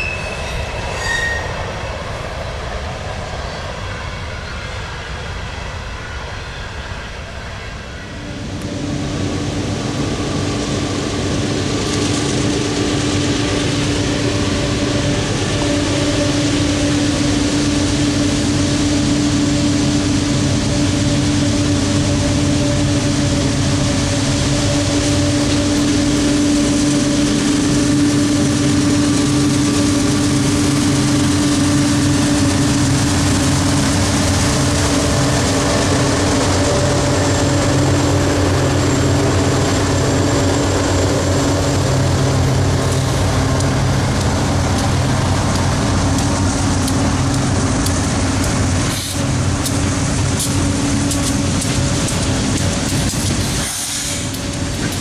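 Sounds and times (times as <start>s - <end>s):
diesel locomotive engine hum: 0.0s - 55.0s.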